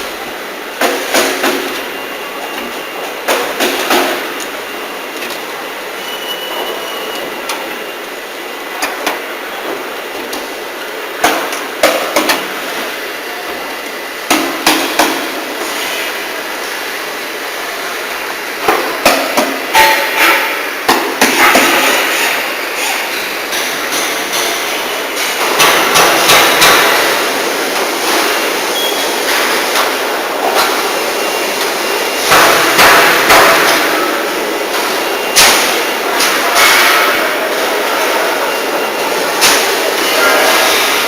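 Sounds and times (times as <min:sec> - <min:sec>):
steady machinery hiss: 0:07.4 - 0:41.0.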